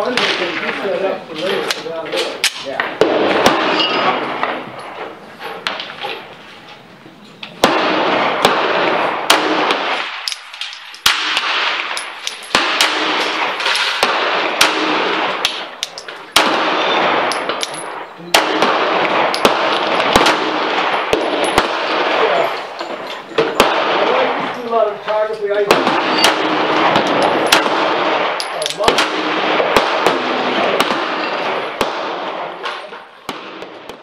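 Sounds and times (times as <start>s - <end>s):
gunshots: 0.0s - 6.3s, 7.6s - 34.0s.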